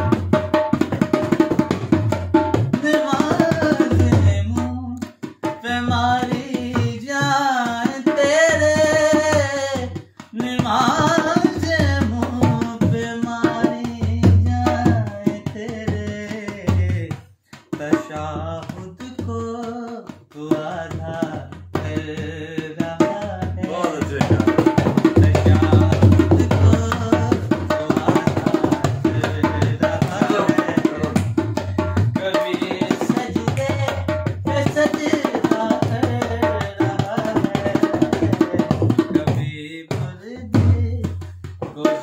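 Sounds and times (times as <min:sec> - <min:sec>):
man singing: 0:00.0 - 0:42.0.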